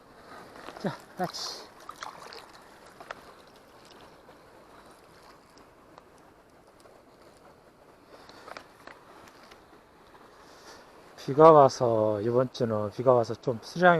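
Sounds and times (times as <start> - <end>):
stream running water: 0.0 - 13.9.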